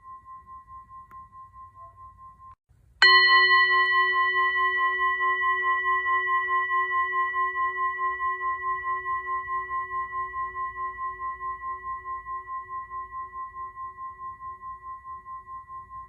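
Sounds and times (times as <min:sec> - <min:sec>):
wavering metallic bell tone: 0:00.0 - 0:16.0.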